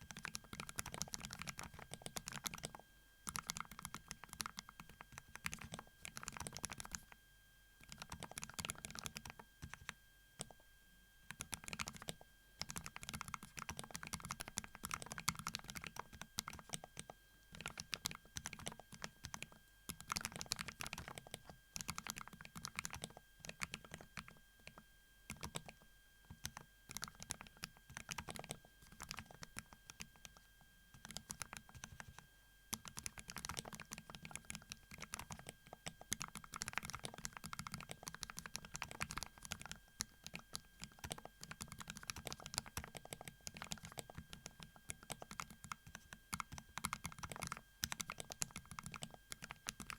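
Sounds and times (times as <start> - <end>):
mechanical keyboard typing: 0.0 - 7.2, 7.8 - 10.6, 11.3 - 30.4, 31.0 - 49.9.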